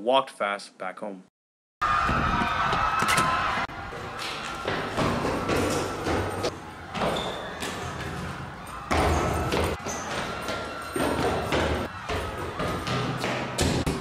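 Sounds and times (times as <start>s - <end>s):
footsteps on concrete stairs: 2.1s - 14.0s.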